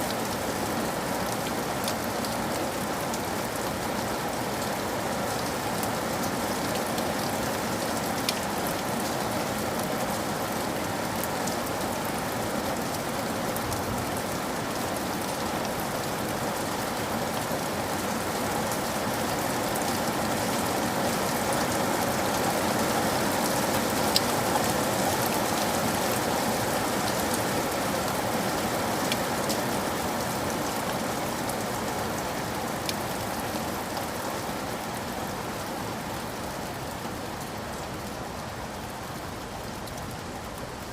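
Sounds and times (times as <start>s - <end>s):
faint ticks of raindrops: 0.0s - 40.9s
steady rain hiss: 0.0s - 40.9s.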